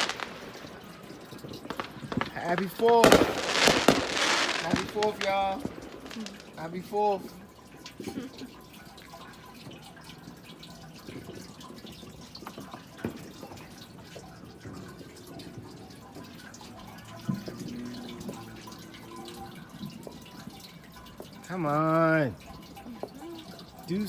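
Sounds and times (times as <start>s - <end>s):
distant fireworks popping: 0.0s - 23.9s.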